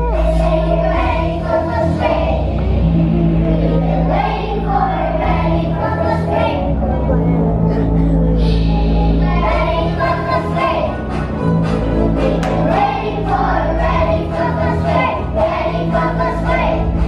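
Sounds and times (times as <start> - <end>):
children singing together: 0.0 - 17.0
instrumental accompaniment: 0.0 - 17.0.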